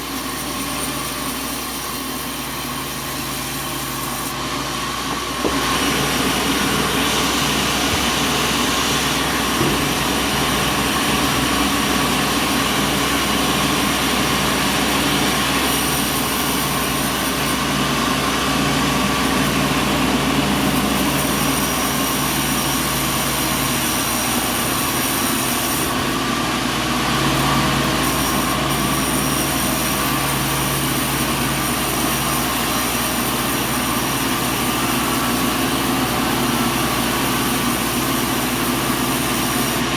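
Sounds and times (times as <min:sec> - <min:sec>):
constant mechanical whine: 0:00.0 - 0:39.9
sawmill machinery drone: 0:00.0 - 0:39.9.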